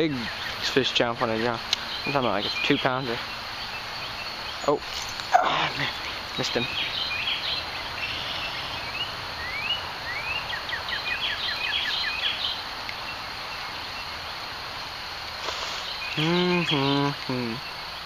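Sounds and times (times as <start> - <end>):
bird chirps: 0.0 - 14.4, 15.4 - 18.0
high insect drone: 0.0 - 18.0.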